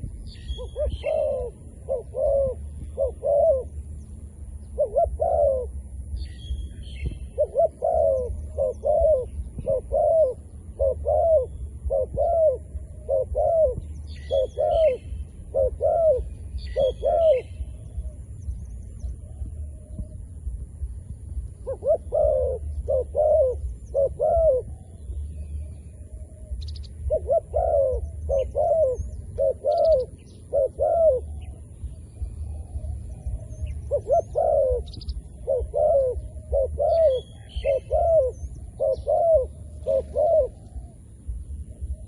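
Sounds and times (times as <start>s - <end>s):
dove cooing: 0.0s - 20.6s, 21.3s - 42.0s
small birds chirping: 0.0s - 42.0s.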